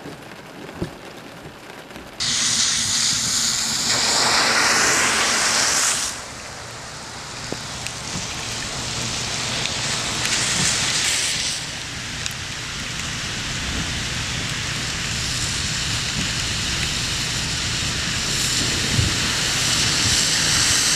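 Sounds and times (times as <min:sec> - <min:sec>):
rain falling on flooded street: 0:00.0 - 0:20.9
car tyres hissing on wet road: 0:02.2 - 0:20.9
tyres spraying through deep water: 0:02.2 - 0:20.9.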